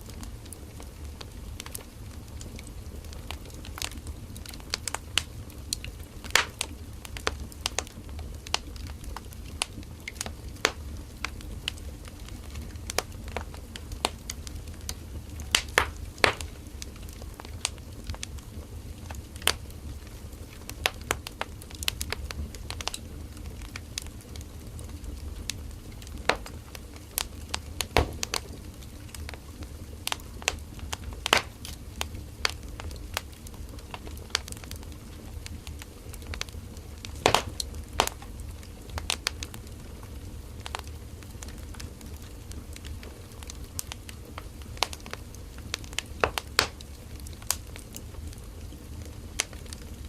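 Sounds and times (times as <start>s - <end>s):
bonfire crackling: 0.0s - 50.0s.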